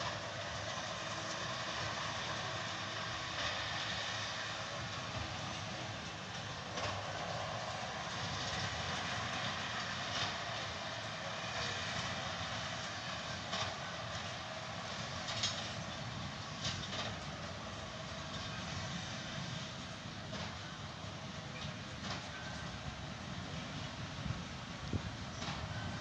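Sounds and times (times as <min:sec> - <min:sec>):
tractor and baler running: 0:00.0 - 0:26.0.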